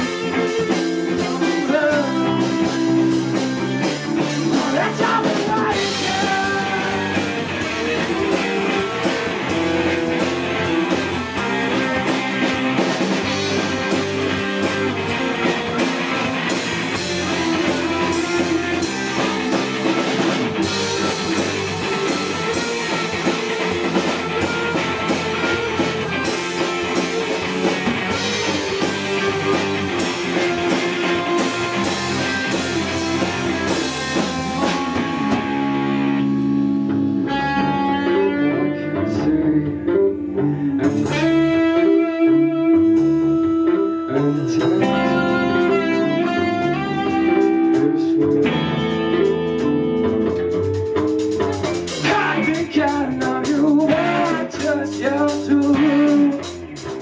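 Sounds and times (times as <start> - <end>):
drum kit with cymbals: 0.0 - 37.0, 42.8 - 57.0
electric guitar: 0.0 - 57.0.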